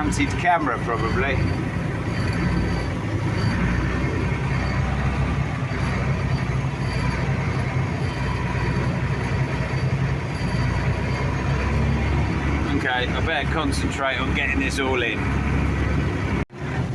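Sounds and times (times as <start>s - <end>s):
engines low hum: 0.0s - 16.9s
rush of machinery and grain: 0.0s - 16.9s.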